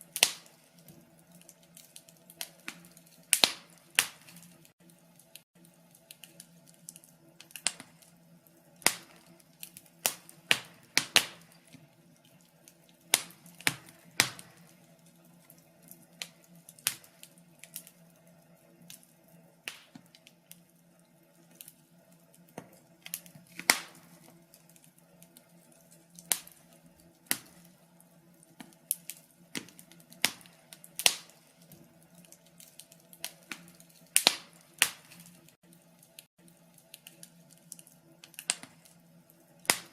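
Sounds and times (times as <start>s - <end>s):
faint steady hum: 0.0s - 39.9s
wood fire crackling and popping: 0.0s - 39.9s.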